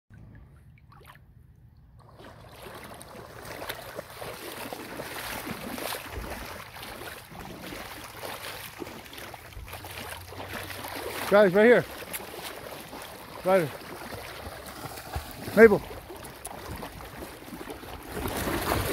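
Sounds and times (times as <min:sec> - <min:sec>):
dogs splashing through water: 0:01.9 - 0:18.9.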